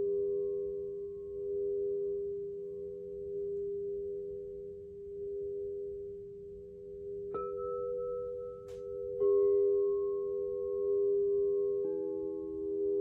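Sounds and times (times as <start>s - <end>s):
singing bowl ringing: 0.0s - 13.0s.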